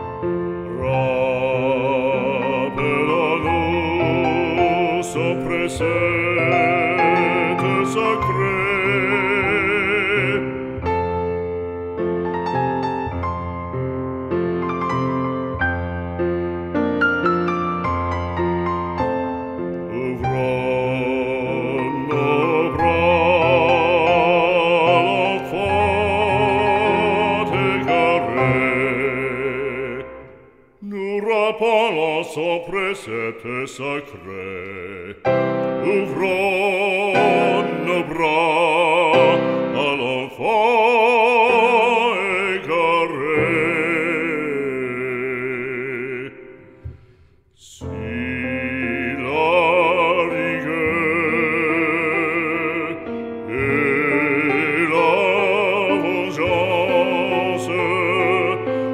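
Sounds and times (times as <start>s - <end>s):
operatic solo singing: 0.6s - 11.2s, 19.8s - 58.9s.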